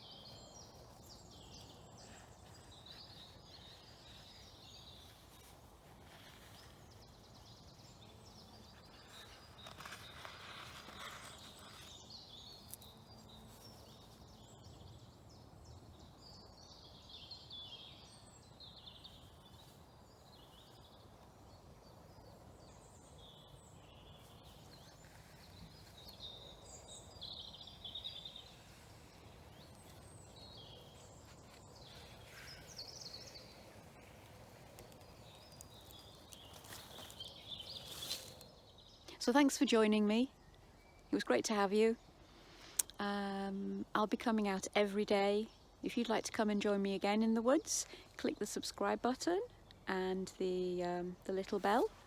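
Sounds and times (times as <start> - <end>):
faint birdsong: 0.0 - 52.0.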